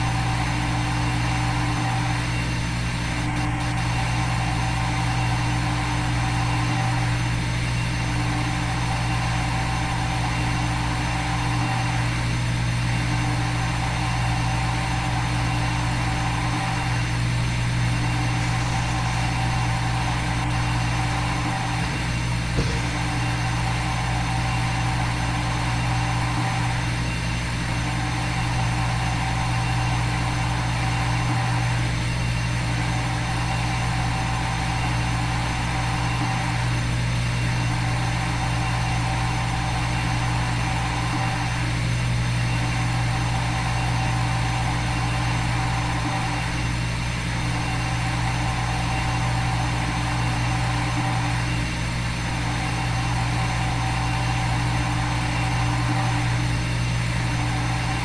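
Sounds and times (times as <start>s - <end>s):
milling machine hum: 0.0s - 58.0s.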